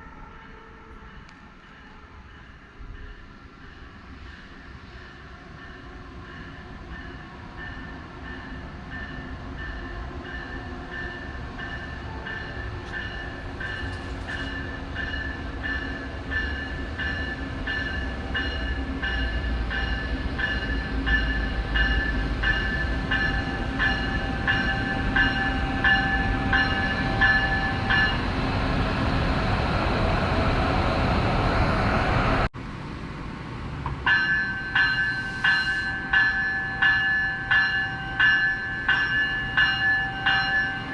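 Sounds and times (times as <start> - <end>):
train bell ringing: 0.0 - 28.4, 34.1 - 40.9
train passing rumble: 0.0 - 40.9.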